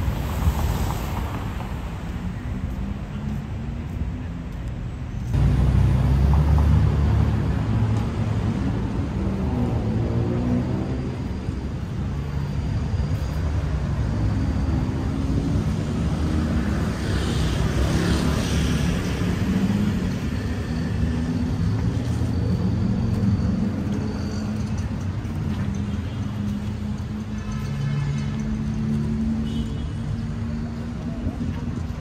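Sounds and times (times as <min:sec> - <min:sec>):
engines humming: 0:00.0 - 0:32.0.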